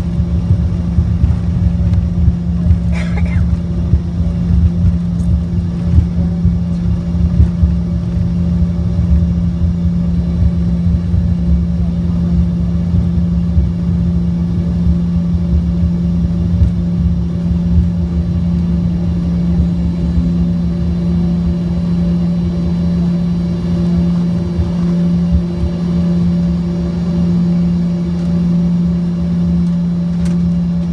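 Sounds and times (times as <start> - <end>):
airliner engines droning: 0.0 - 30.9.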